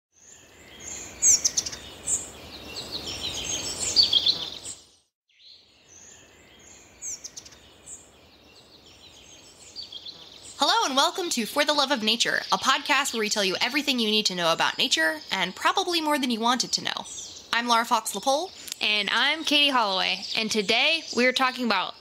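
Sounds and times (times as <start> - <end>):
birds chirping and singing: 0.2 - 22.0.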